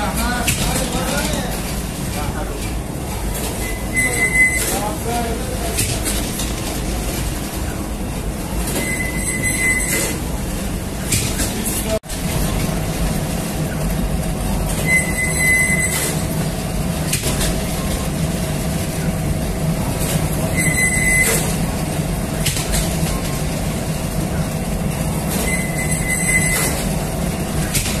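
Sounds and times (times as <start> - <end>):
conveyor belt mechanical hum: 0.0 - 28.0.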